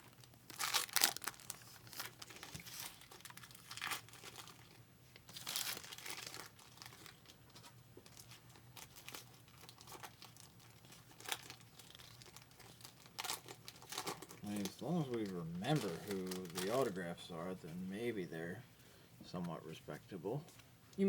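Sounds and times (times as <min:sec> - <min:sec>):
card wrappers crinkling and tearing: 0:00.0 - 0:18.0.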